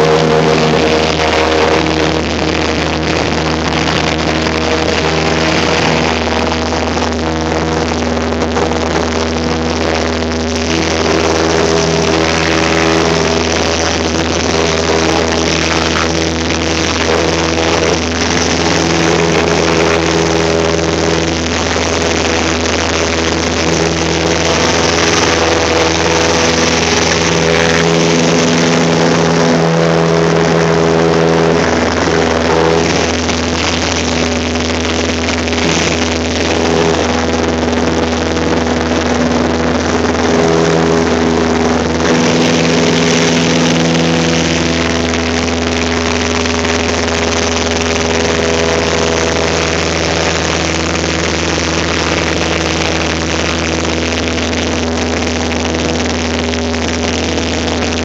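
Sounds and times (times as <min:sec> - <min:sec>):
propeller plane engine drone: 0:00.0 - 0:58.0
wind rush: 0:00.0 - 0:58.0.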